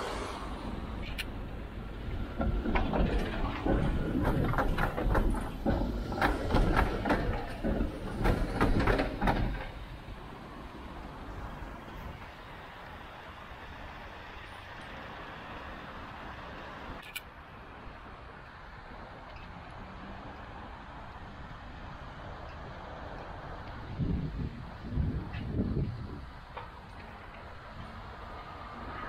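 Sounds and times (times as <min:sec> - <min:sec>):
street background noise: 0:00.0 - 0:29.0
tram rumbling past: 0:00.0 - 0:29.0
wheels clattering over rail joints: 0:00.0 - 0:29.0.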